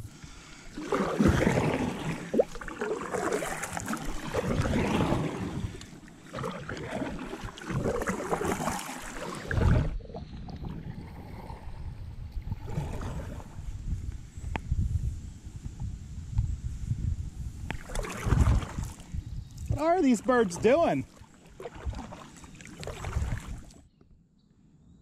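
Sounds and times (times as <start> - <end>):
paddle splashing through water: 0.0 - 13.8, 17.6 - 23.8
steady wash of water: 0.0 - 13.8, 17.6 - 23.8.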